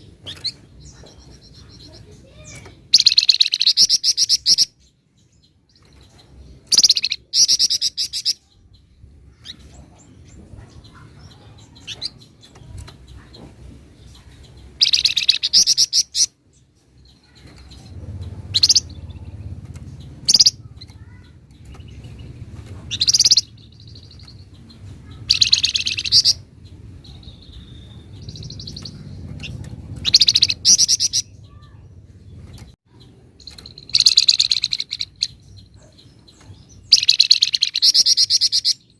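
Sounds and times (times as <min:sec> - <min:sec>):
songbird singing rattling trills: 0:00.0 - 0:38.9.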